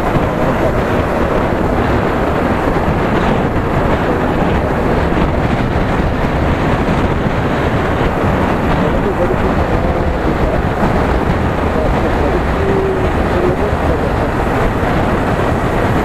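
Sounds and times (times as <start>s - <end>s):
motorcycle engine and road noise: 0.0s - 16.0s
wind buffeting microphone: 0.0s - 16.0s.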